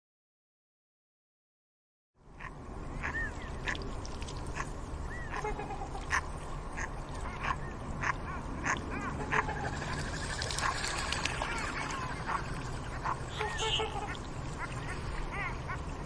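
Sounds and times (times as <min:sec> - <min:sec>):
steady low rumble: 0:02.2 - 0:16.0
swans calling: 0:02.4 - 0:03.8, 0:04.4 - 0:16.0.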